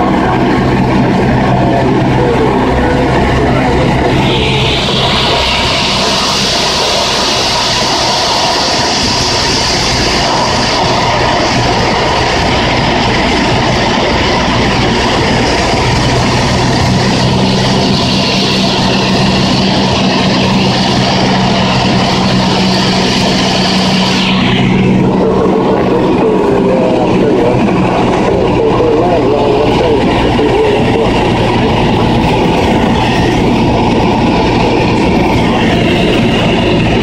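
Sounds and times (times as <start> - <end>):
aircraft engine and propeller drone: 0.0 - 37.0
low tone: 0.0 - 37.0
rushing airflow: 0.0 - 37.0.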